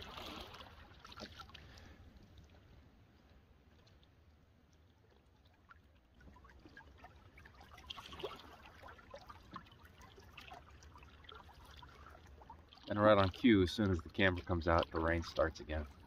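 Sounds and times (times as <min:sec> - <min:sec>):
small splashes: 0:00.0 - 0:16.0
water dripping and trickling: 0:00.0 - 0:16.0.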